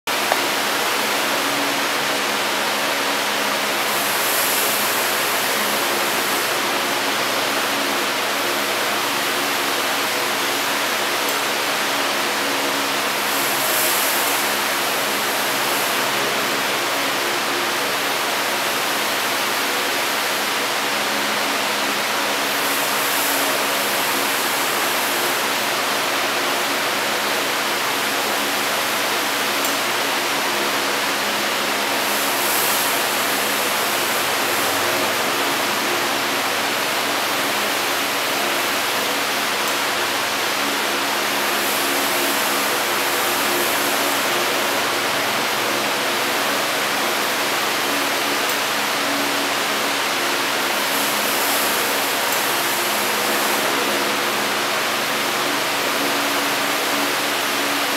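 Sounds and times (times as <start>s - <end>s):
running water rushing: 0.1s - 57.9s.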